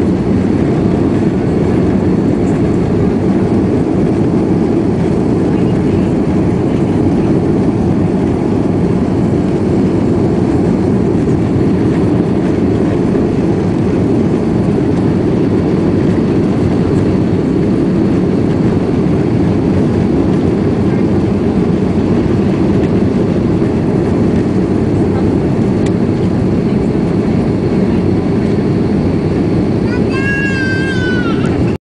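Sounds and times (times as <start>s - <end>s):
airplane cabin engine rumble: 0.0s - 31.8s.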